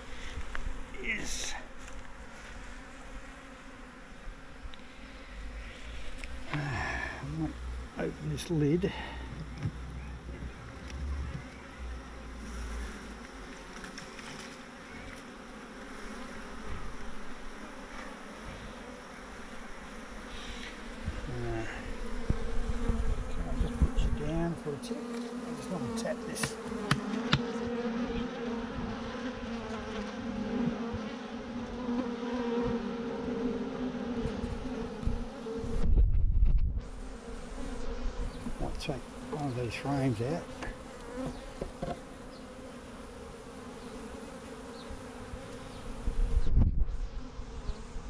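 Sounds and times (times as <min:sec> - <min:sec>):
bee swarm buzzing: 0:00.0 - 0:48.0.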